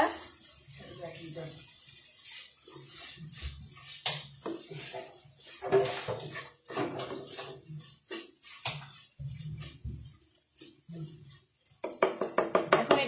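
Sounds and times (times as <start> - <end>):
spatula scraping frying pan: 0.0 - 13.0.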